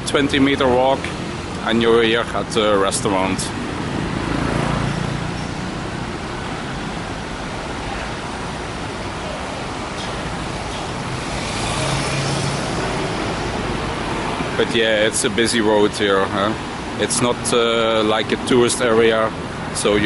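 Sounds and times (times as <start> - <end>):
city road traffic: 0.0 - 20.0
engine hum: 0.0 - 20.0.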